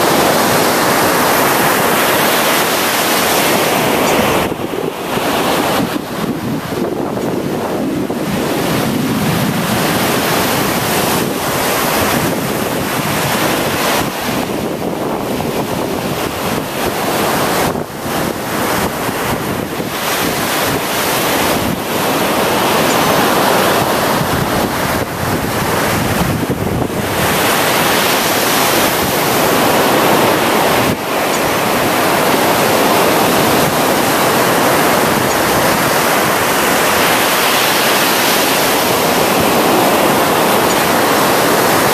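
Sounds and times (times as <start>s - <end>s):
surf breaking on sandy beach: 0.0s - 41.9s
wind buffeting microphone: 0.0s - 41.9s.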